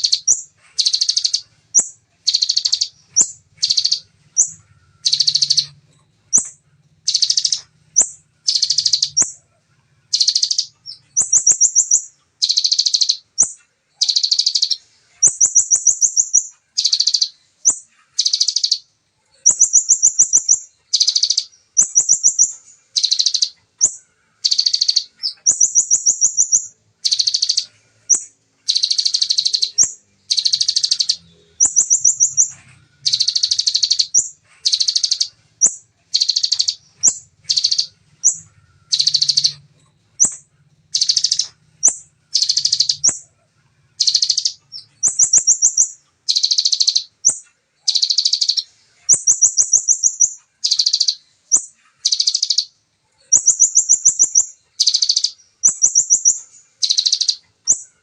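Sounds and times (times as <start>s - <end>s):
bird singing trilled phrases: 0.0s - 58.0s.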